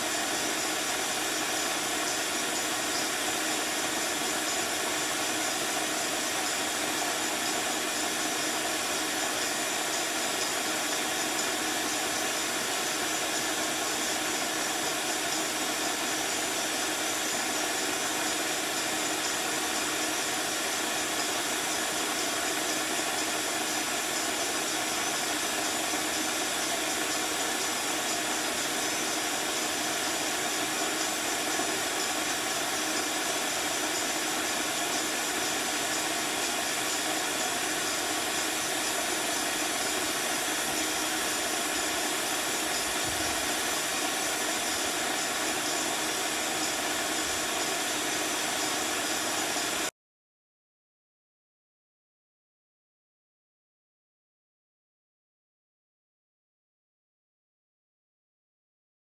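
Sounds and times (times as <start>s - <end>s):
vacuum running: 0.0s - 49.9s.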